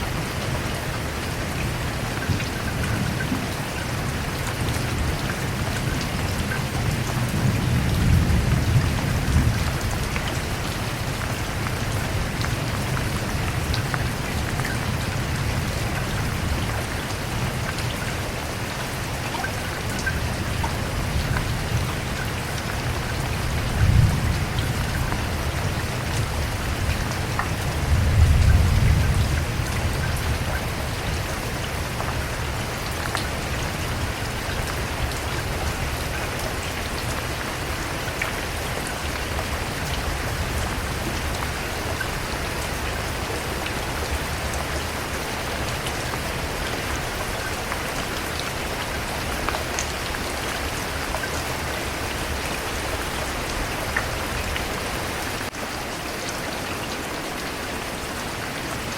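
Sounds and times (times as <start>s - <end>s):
rain pattering on a surface: 0.0s - 58.9s.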